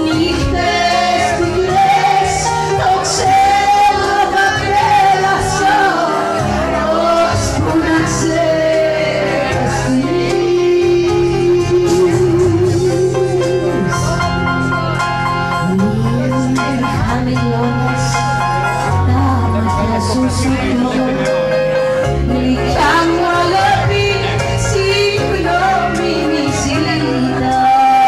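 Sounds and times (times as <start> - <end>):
woman singing with vibrato: 0.0 - 14.2, 15.6 - 21.2, 22.2 - 28.0
live band accompaniment: 0.0 - 28.0.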